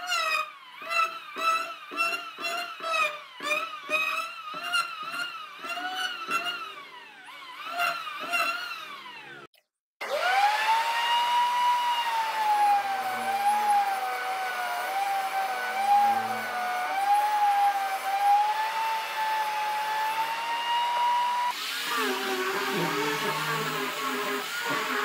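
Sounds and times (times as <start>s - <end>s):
table saw cutting wood: 0.0s - 25.0s.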